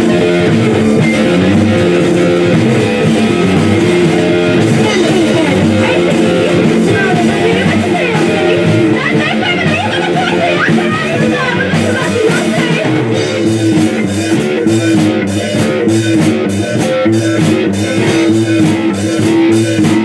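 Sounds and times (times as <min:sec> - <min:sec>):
bending high guitar notes: 0:00.0 - 0:20.0
live rock band playing: 0:00.0 - 0:20.0.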